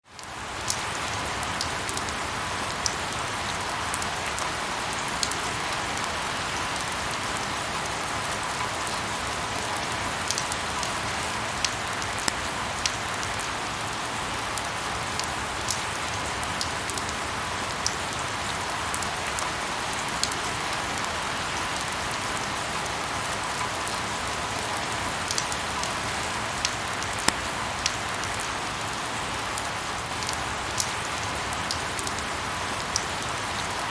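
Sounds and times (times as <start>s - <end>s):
light rain hiss: 0.1s - 33.9s
raindrops ticking on a surface: 0.1s - 33.9s.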